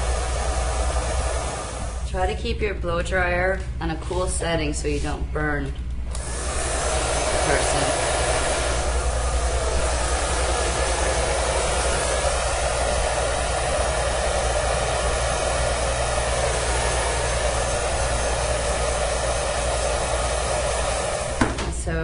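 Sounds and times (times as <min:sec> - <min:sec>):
blow dryer running: 0:00.0 - 0:22.0.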